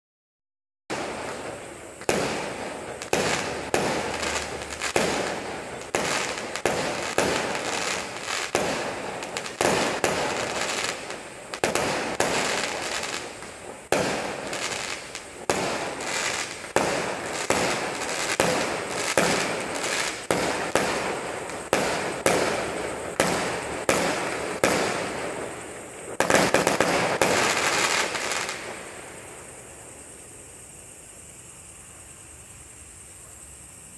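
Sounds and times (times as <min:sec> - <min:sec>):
fireworks banging: 0:00.9 - 0:29.6.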